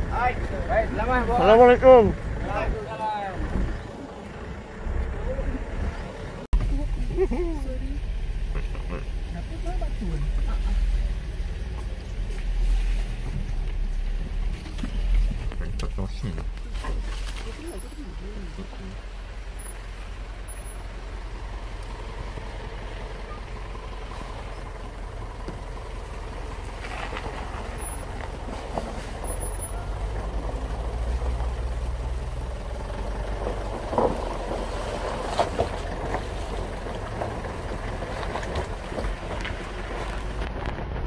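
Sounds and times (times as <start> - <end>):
engine running at low speed: 0.0 - 41.0.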